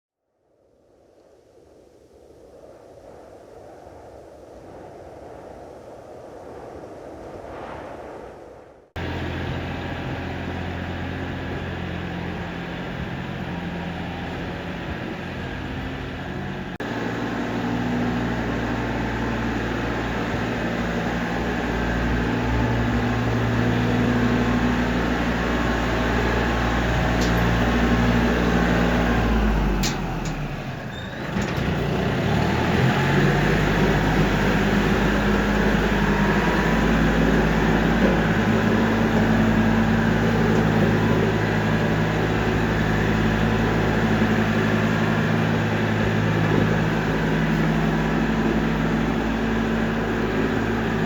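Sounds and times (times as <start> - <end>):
tractor engine running: 9.0 - 51.0.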